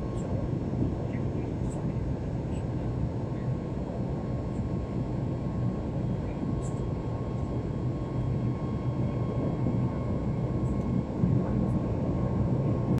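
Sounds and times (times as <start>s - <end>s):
jet engine and airflow noise: 0.0s - 13.0s.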